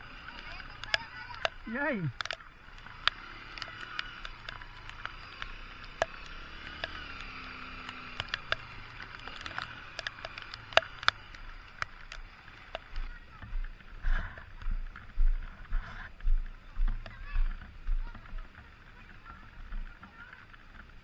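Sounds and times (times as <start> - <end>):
motorcycle engine hum: 0.0 - 21.0
raindrops ticking on camera: 0.1 - 21.0.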